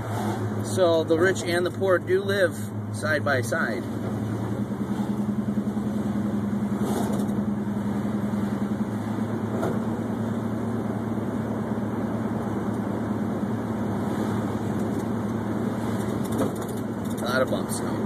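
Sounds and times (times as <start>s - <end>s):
car engine running: 0.0s - 18.0s
road noise: 0.0s - 18.0s.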